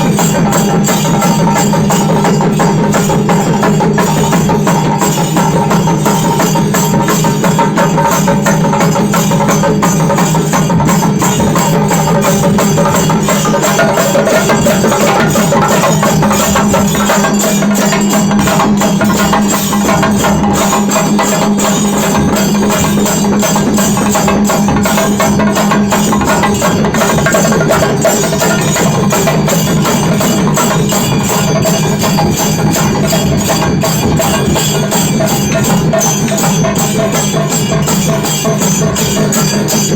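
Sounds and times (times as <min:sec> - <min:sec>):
temple drums beaten fast: 0:00.0 - 0:39.9.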